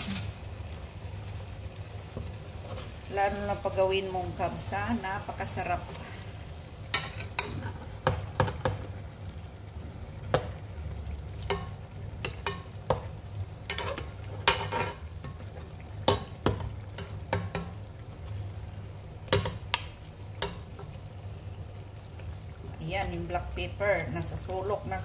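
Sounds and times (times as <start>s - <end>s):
fish frying: 0.0s - 25.0s.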